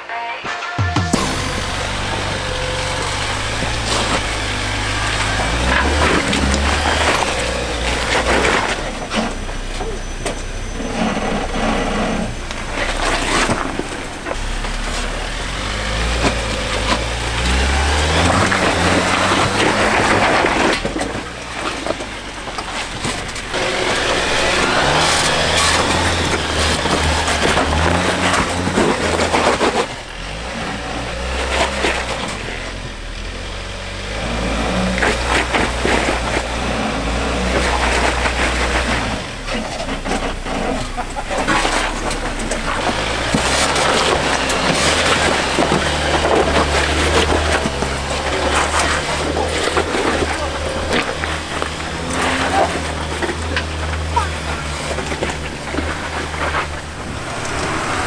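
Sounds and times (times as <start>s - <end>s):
vehicle running: 0.0s - 58.0s.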